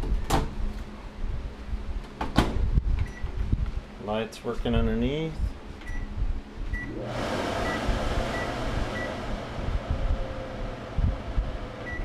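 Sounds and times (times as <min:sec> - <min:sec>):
microwave vent fan whirring: 0:00.0 - 0:12.0.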